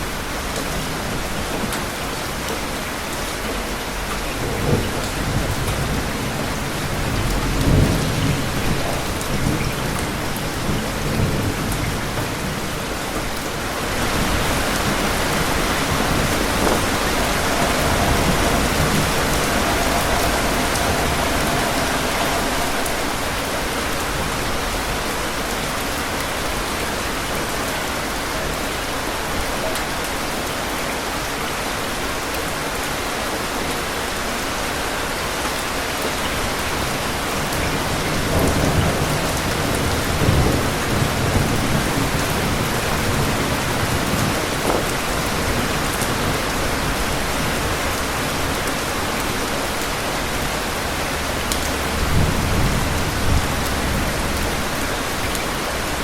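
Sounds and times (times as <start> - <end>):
thunder rumbling: 0.0 - 30.0, 34.4 - 56.0
steady rain: 0.0 - 56.0.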